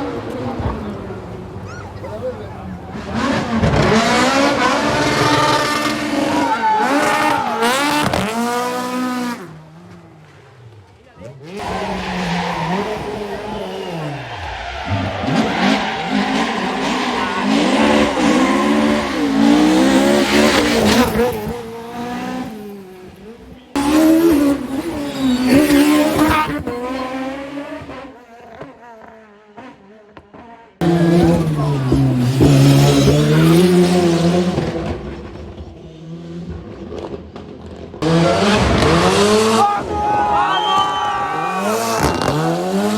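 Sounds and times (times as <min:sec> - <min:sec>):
rally car engine at full throttle: 0:00.0 - 0:42.9.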